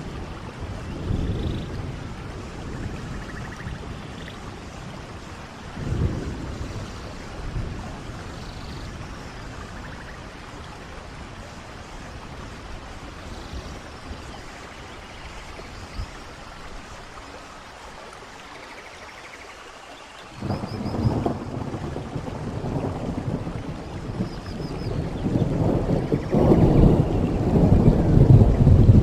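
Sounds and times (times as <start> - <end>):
rain: 0.0 - 29.0
waterfall rushing: 0.0 - 29.0.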